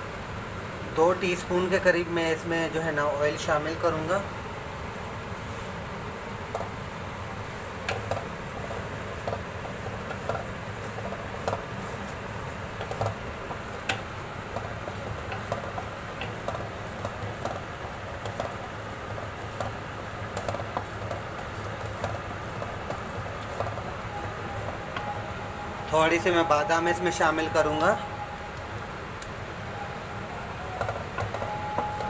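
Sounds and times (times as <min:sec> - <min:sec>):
food sizzling and bubbling in oil: 0:00.0 - 0:26.0.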